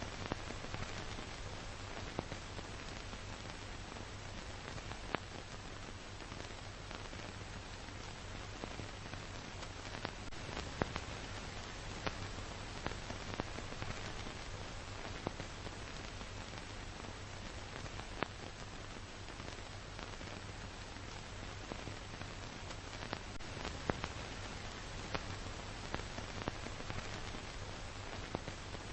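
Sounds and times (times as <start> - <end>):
film surface hiss: 0.0 - 28.9.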